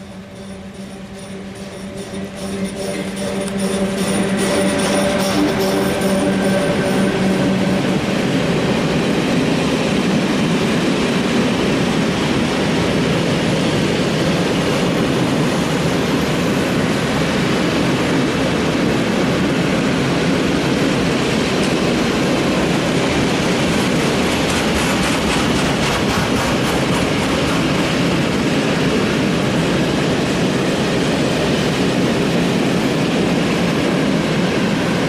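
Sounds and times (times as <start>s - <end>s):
electric locomotive hum: 0.0s - 35.0s
train wheels rumbling on rails: 0.0s - 35.0s.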